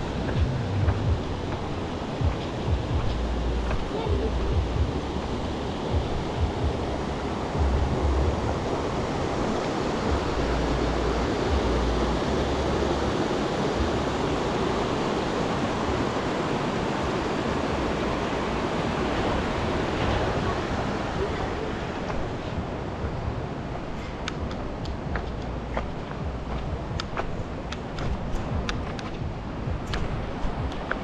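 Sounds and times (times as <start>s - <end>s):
fast-flowing river water: 0.0s - 31.0s
wind buffeting microphone: 0.0s - 31.0s.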